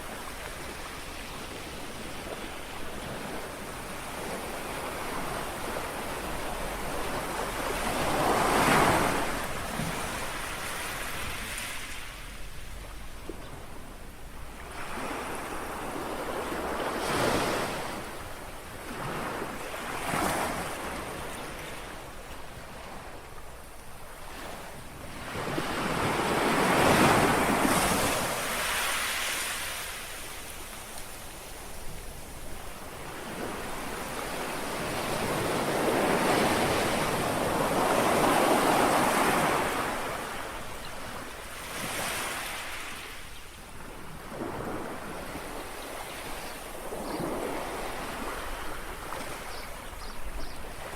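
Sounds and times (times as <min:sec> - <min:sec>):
small waves lapping on shore: 0:00.0 - 0:50.9.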